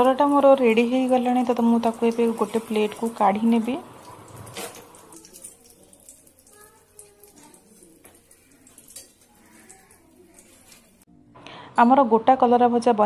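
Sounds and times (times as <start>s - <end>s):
gourd sizzling in a pan: 0.0s - 11.1s.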